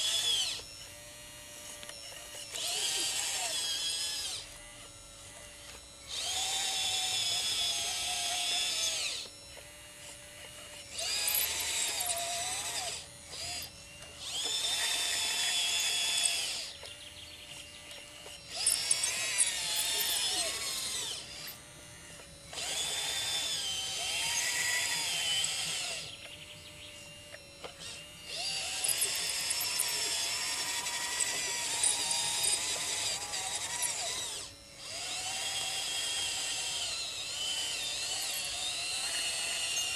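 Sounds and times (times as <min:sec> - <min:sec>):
model motors and pump whining: 0:00.0 - 0:39.9.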